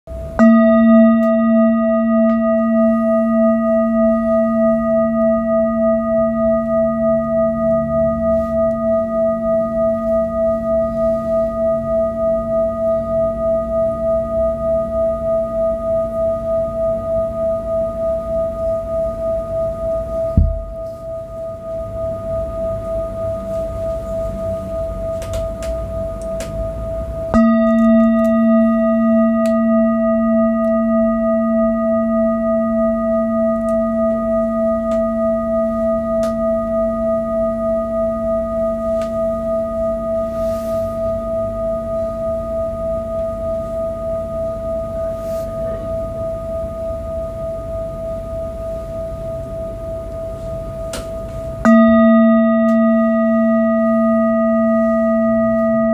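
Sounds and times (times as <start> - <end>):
metal singing bowl ringing: 0.1 - 55.9.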